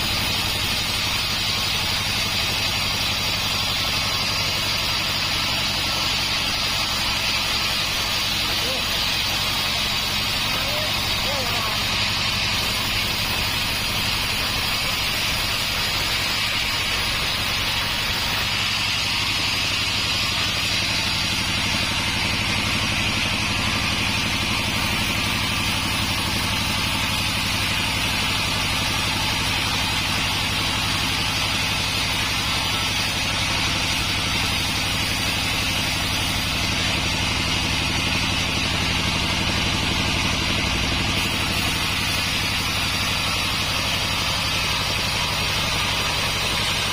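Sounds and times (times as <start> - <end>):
sawmill sawing a log: 0.0 - 46.9.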